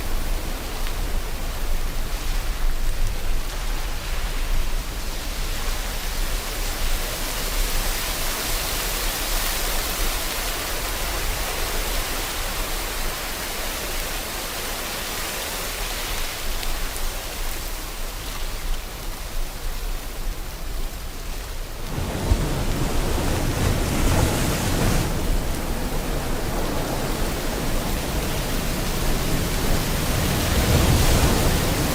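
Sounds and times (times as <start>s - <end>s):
steady rain: 0.0s - 31.9s
waves washing ashore: 0.0s - 31.9s.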